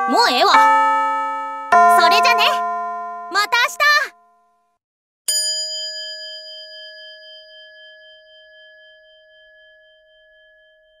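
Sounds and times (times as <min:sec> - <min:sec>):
bell-like chime ringing: 0:00.0 - 0:04.6, 0:05.3 - 0:11.0.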